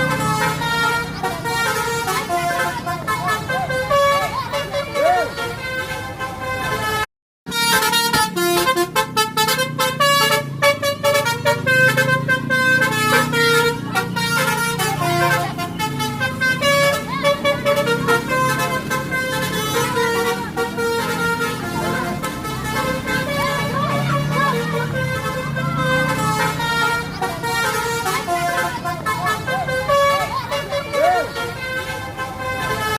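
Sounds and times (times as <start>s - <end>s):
musical bus air horn tune: 0.0s - 32.9s.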